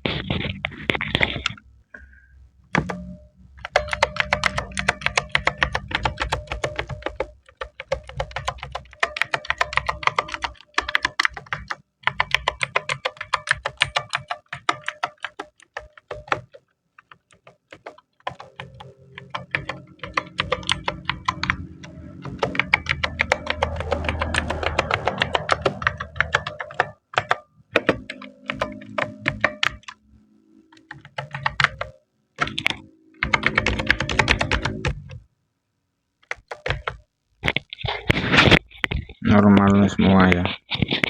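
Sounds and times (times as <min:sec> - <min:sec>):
clicky keyboard typing: 0:00.0 - 0:01.6, 0:02.7 - 0:30.0, 0:30.6 - 0:35.2, 0:36.2 - 0:39.7.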